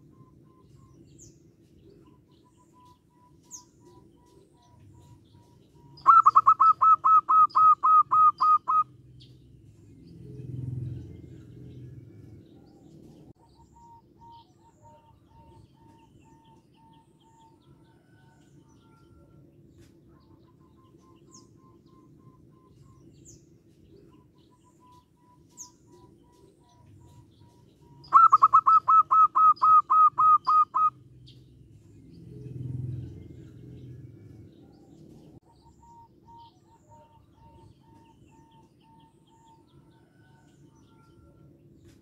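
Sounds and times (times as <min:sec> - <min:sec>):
dove calling: 0:00.0 - 0:42.0
small birds chirping: 0:00.0 - 0:42.0.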